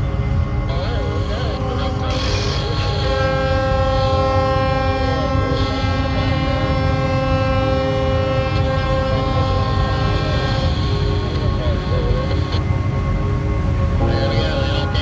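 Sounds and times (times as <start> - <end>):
constant low rumble: 0.0 - 15.0
ship horn long blast: 0.0 - 15.0.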